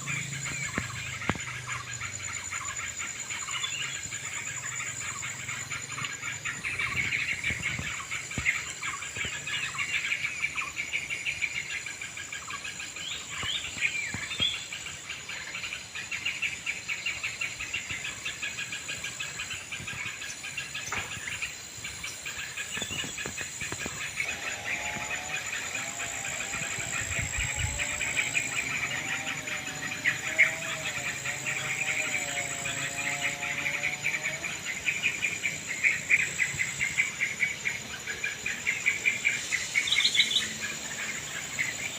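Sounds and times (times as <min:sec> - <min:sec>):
birds chattering and calling: 0:00.0 - 0:41.9
high insect drone: 0:00.0 - 0:41.9.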